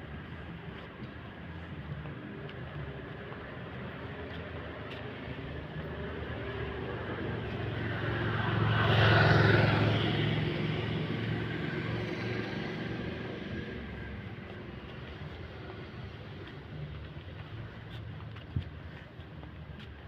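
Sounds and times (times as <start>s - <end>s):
road vehicle passing by: 1.4s - 19.8s.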